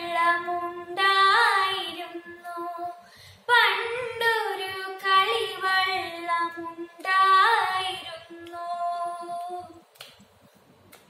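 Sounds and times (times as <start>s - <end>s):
girl singing unaccompanied: 0.0s - 9.9s.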